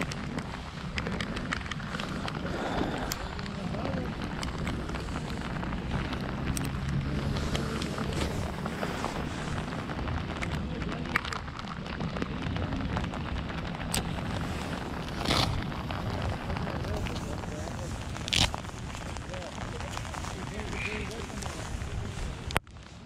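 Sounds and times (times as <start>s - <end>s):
low rumble: 0.0s - 23.0s
rain pattering on jacket: 0.0s - 23.0s.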